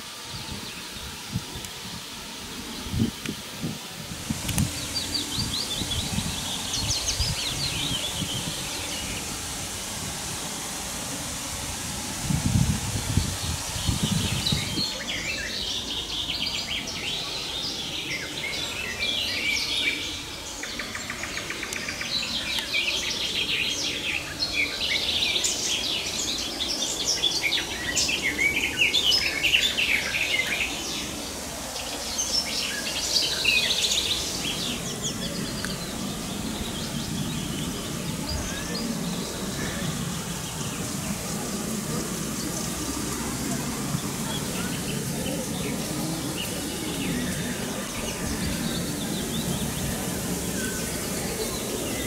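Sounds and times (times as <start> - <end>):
songbirds chirping and trilling: 0.0 - 52.0.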